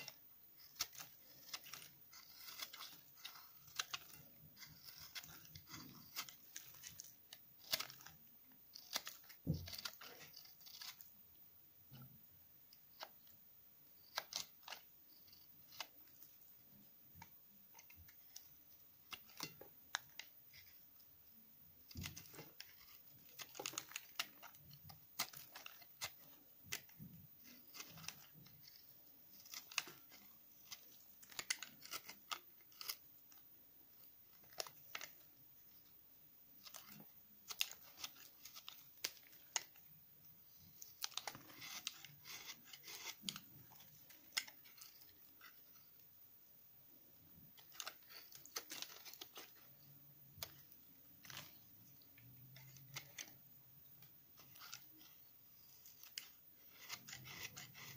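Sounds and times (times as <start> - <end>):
knife shaving soap: 0.0 - 11.3, 12.7 - 46.2, 47.4 - 57.9.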